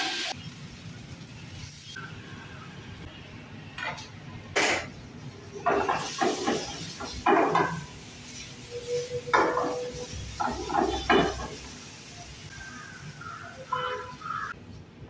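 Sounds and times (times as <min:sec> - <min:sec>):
frying sizzle: 0:00.0 - 0:14.6.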